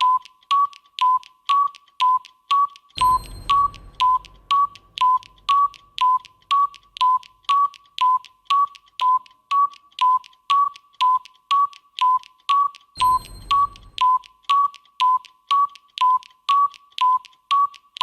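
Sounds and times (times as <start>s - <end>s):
electronic clock tick-tock: 0.0s - 18.0s.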